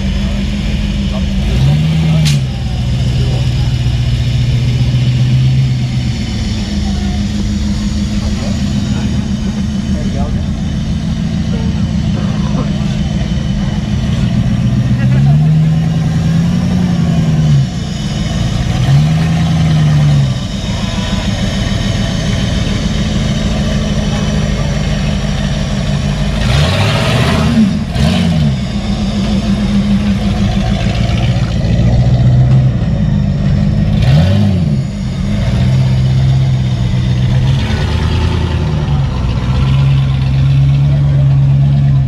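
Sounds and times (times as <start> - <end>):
truck engine revving: 0.0 - 42.0.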